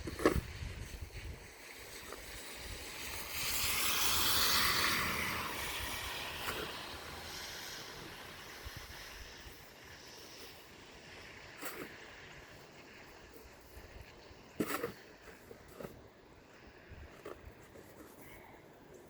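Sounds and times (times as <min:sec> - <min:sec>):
tyres hissing on snowy street: 0:00.0 - 0:19.0.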